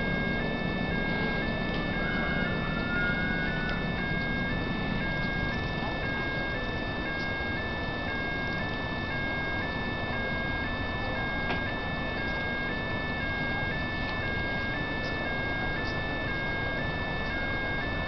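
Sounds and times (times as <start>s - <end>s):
level crossing two-tone alarm: 0.0s - 18.0s
steady noisy background: 0.0s - 18.0s.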